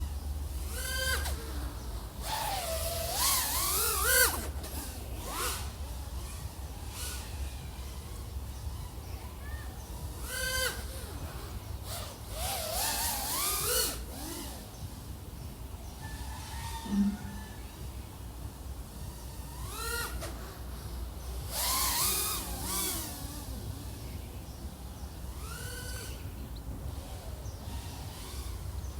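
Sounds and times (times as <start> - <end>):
quadcopter motor whine: 0.0 - 28.9.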